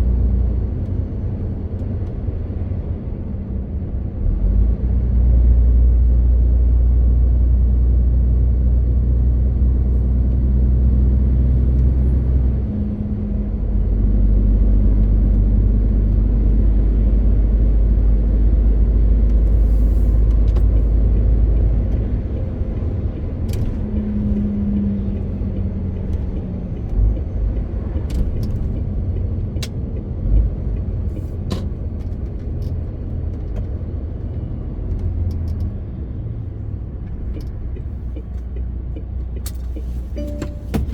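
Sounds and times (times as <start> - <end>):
road and cab noise: 0.0 - 40.9
truck diesel engine droning: 0.0 - 40.9.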